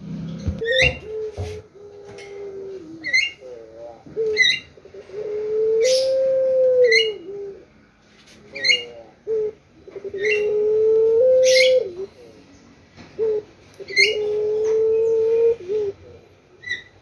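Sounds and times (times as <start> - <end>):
dove cooing: 0.4 - 17.0.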